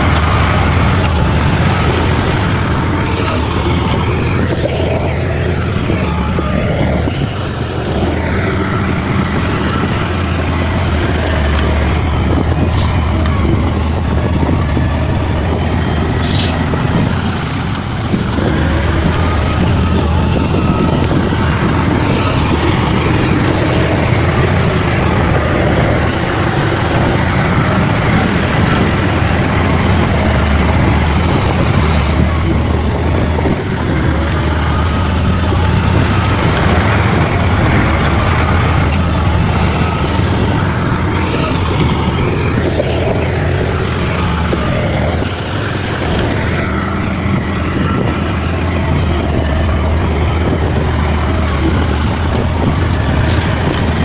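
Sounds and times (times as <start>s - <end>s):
bulldozer engine droning: 0.0s - 54.0s.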